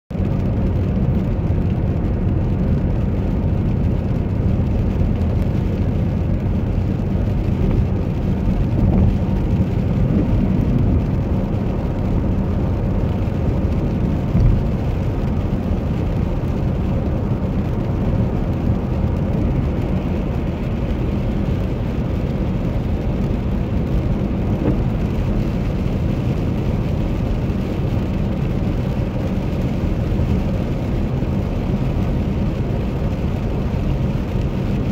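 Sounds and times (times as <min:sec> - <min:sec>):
car engine running: 0:00.1 - 0:34.9
tyres on wet pavement: 0:00.1 - 0:34.9.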